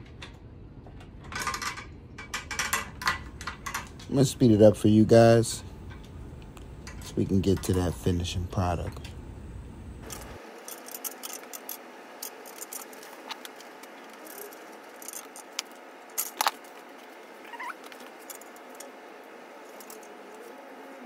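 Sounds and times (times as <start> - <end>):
tools clicking and rattling: 0.0 - 4.6, 5.6 - 9.2, 10.0 - 21.0.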